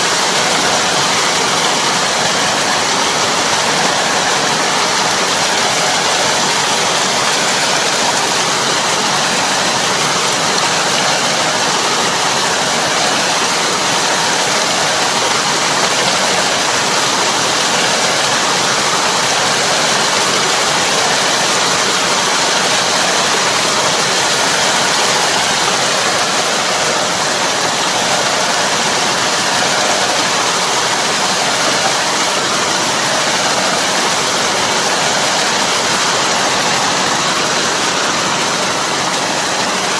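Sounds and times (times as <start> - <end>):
tines churning muddy water: 0.0 - 39.9.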